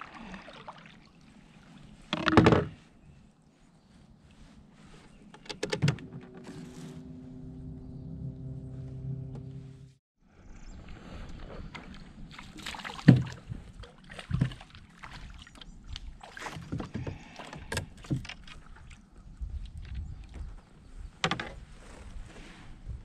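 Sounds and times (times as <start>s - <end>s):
soft rumble of boat and water: 0.0s - 23.0s.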